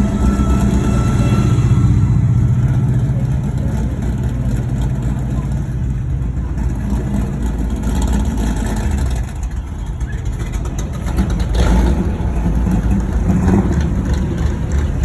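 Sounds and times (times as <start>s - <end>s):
car engines driving by: 0.0s - 15.0s.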